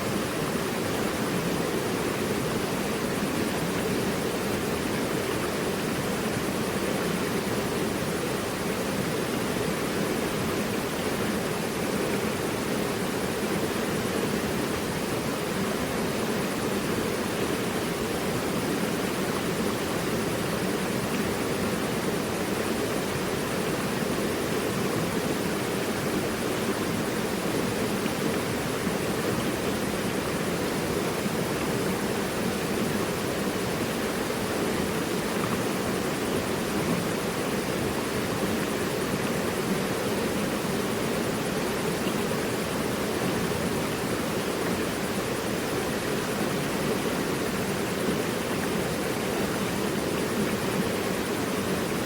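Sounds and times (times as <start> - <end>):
river rushing over rocks: 0.0 - 52.0.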